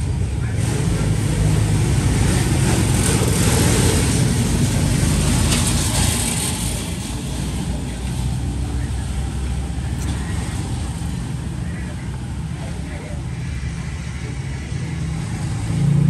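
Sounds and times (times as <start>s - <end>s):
passing motor vehicle rumble: 0.0s - 16.0s.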